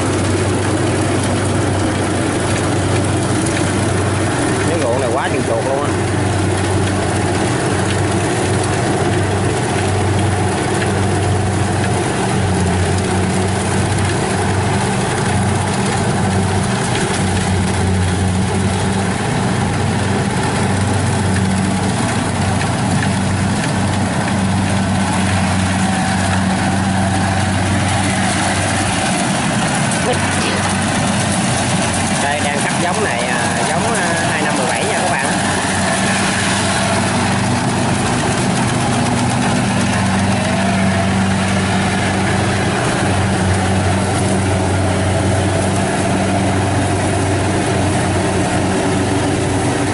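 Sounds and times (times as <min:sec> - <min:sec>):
diesel engine humming: 0:00.0 - 0:49.9
machine clatter: 0:00.0 - 0:49.9.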